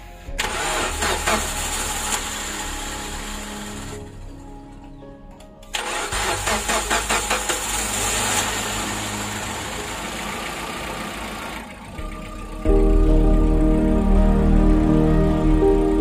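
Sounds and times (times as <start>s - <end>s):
car engine cranking and idling: 0.0s - 16.0s.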